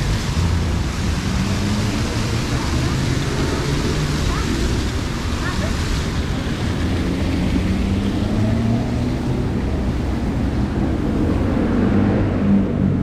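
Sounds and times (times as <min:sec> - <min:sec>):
fountain splashing: 0:00.0 - 0:11.9
traffic rumble: 0:00.0 - 0:13.0.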